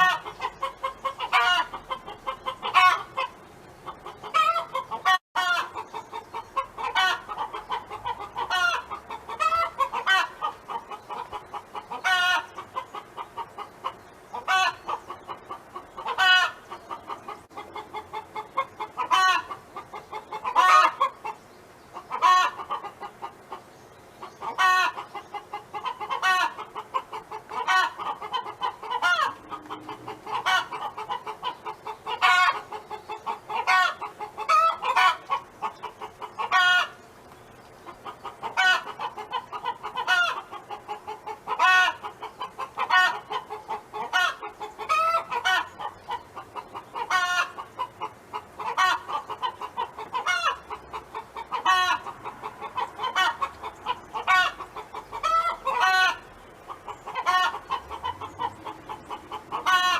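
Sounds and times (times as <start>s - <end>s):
hen drawn-out calls: 0.0s - 37.0s, 37.8s - 59.9s
hen clucking: 0.0s - 59.9s.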